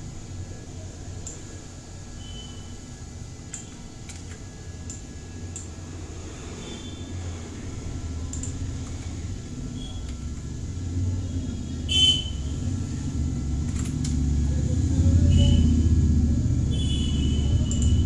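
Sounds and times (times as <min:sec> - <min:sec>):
low rumble of road traffic: 0:00.0 - 0:18.0.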